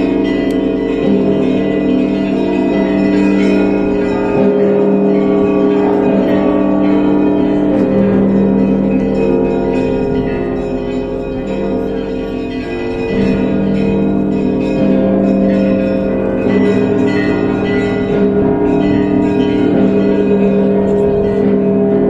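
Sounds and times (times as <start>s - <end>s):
church bells pealing: 0.0s - 22.0s
deep bell strikes: 0.0s - 22.0s.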